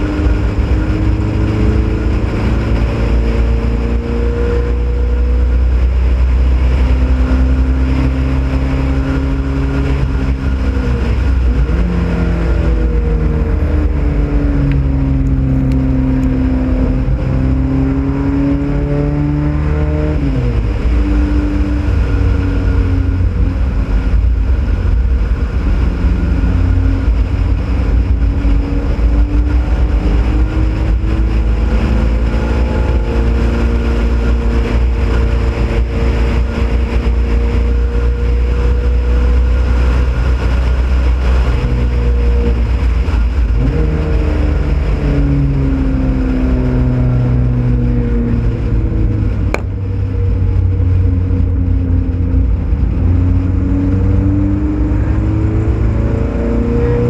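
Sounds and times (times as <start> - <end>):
race car engine at speed: 0.0 - 57.0
wind rumble on microphone: 0.0 - 57.0.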